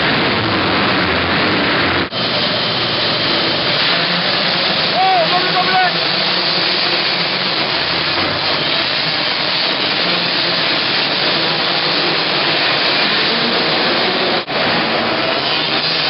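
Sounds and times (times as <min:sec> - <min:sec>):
motocross bikes racing: 0:00.0 - 0:16.0.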